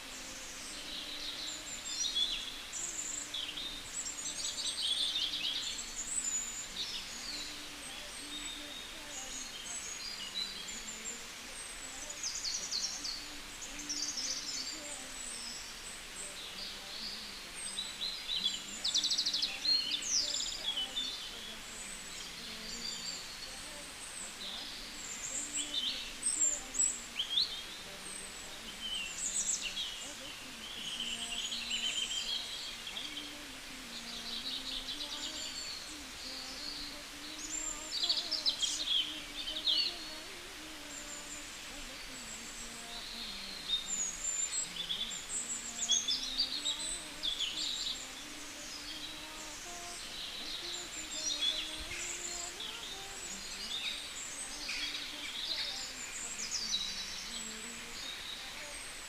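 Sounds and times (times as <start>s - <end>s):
small birds chirping: 0.0s - 59.0s
steady background hiss: 0.0s - 59.0s.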